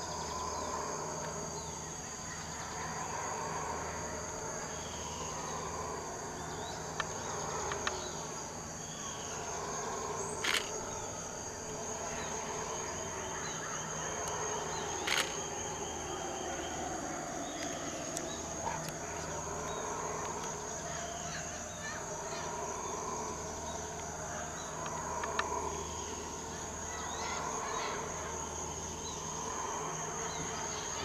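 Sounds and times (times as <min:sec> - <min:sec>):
high insect buzz: 0:00.0 - 0:31.0
howler monkeys howling: 0:00.0 - 0:31.0.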